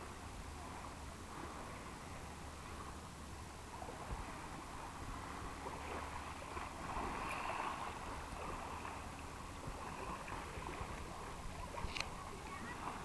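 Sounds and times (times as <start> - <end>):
water splashing and lapping: 0.0 - 13.0.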